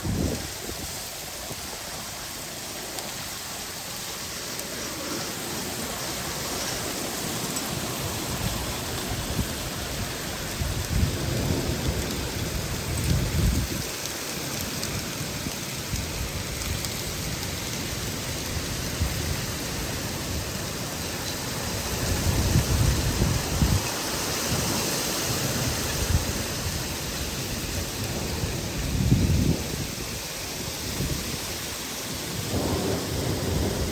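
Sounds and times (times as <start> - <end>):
rain and hail on a pond: 0.0 - 33.9.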